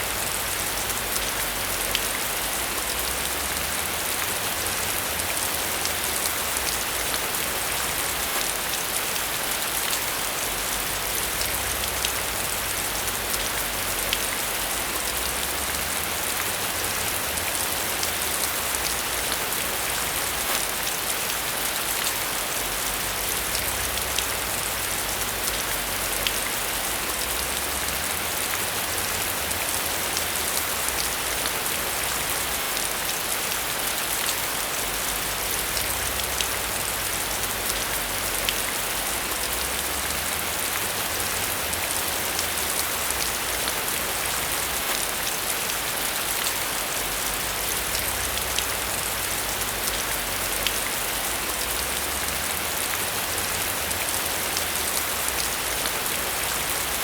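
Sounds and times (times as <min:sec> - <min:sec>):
raindrops ticking on a surface: 0:00.0 - 0:57.0
steady rain hiss: 0:00.0 - 0:57.0.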